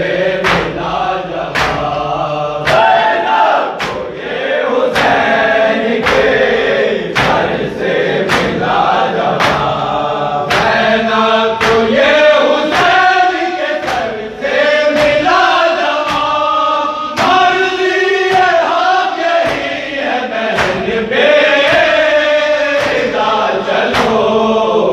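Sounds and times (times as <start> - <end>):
men chanting in unison: 0.0 - 24.9
chest-beating slaps: 0.4 - 24.4.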